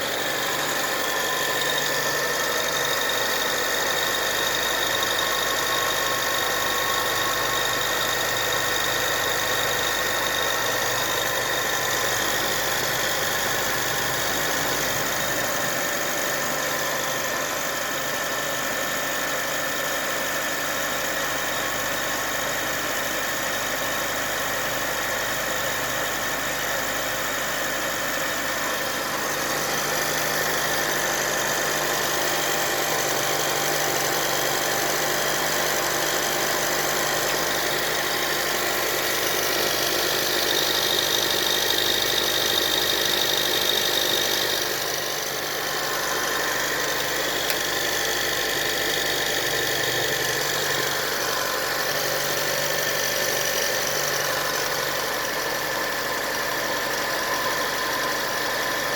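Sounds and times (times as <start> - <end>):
car engine running: 0.0 - 58.9.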